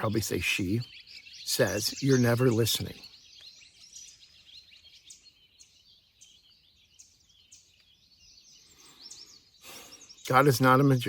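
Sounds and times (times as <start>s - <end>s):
birds chirping: 0.0s - 11.0s
soft outdoor hiss: 0.0s - 11.0s.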